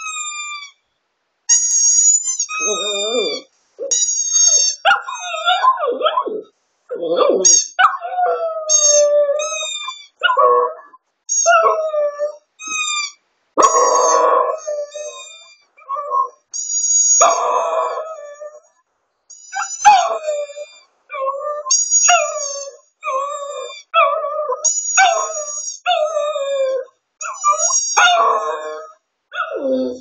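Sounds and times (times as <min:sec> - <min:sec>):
dog howling: 0:02.6 - 0:03.9, 0:04.8 - 0:13.0, 0:13.6 - 0:16.4, 0:17.1 - 0:18.6, 0:19.5 - 0:30.0.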